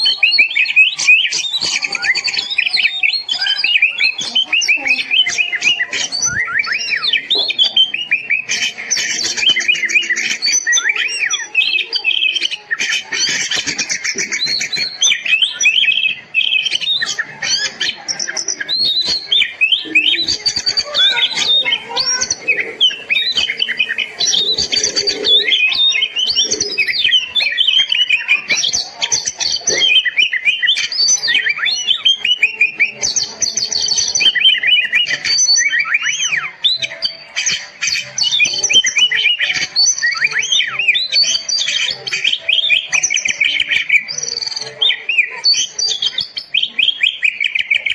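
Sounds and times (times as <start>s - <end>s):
bird singing loudly: 0.0s - 47.9s.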